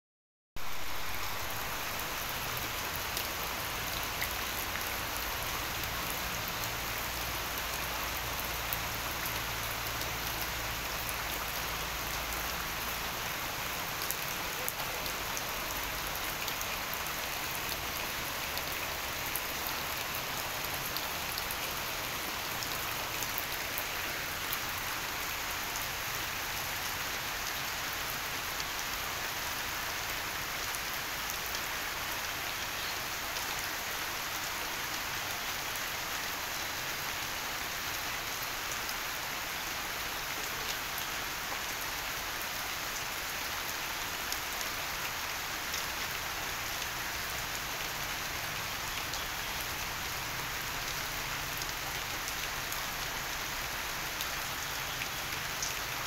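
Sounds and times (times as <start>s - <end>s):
rain on leaves and puddles: 0.6s - 56.0s.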